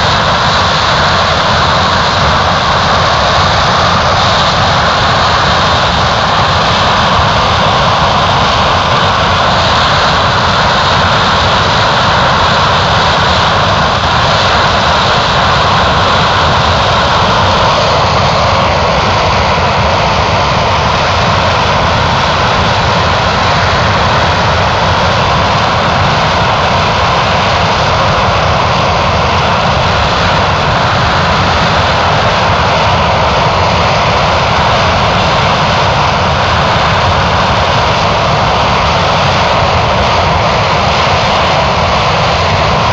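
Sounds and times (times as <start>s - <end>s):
aircraft engine running: 0.0s - 42.9s.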